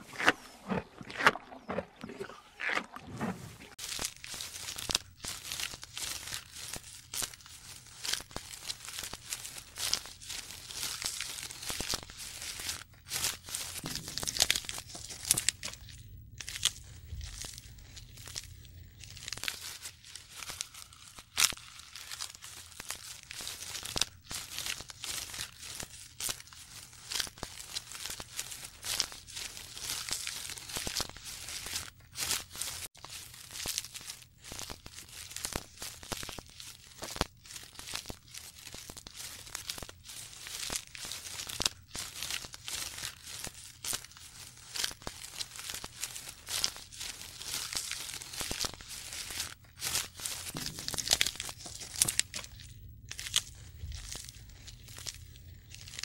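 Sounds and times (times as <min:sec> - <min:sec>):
leaves and twigs rustling and snapping: 0:03.6 - 0:56.0.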